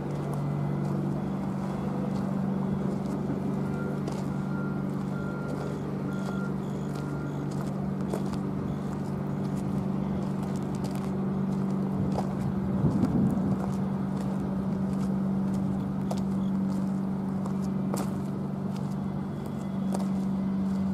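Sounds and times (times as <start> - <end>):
diesel locomotive engine drone: 0.0 - 20.9.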